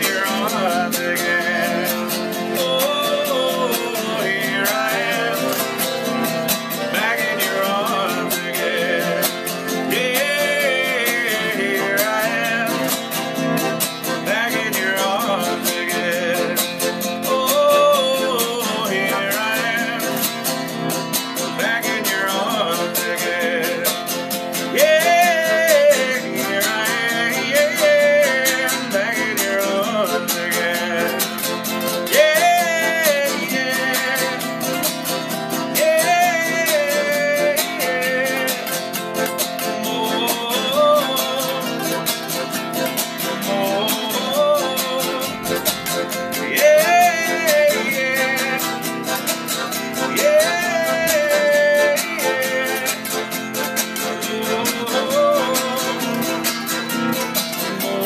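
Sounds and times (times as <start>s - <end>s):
acoustic guitars playing: 0.0s - 58.0s
man singing: 0.0s - 58.0s.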